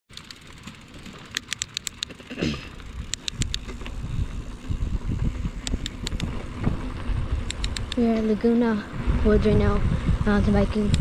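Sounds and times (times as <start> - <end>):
bike clicks and rattles: 0.1 - 11.0
tyres and wind rumble: 0.1 - 11.0.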